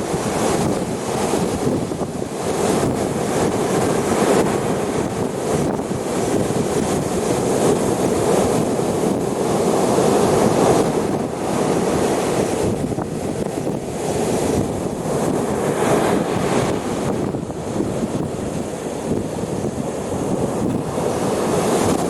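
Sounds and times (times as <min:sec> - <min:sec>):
waves breaking on shore: 0:00.0 - 0:22.0
wind buffeting microphone: 0:00.0 - 0:22.0.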